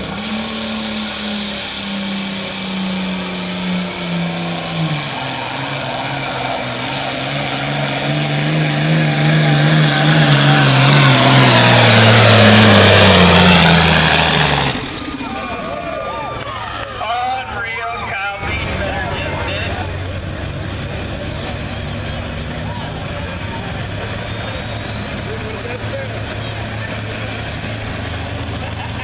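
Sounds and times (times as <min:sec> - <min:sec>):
high turbo whine: 0:00.0 - 0:29.0
tractor diesel engine under load: 0:00.0 - 0:29.0.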